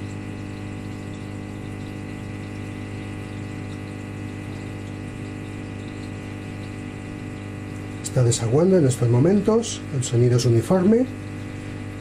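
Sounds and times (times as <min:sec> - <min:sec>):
drain pump humming: 0:00.0 - 0:12.0
water flowing: 0:00.0 - 0:12.0.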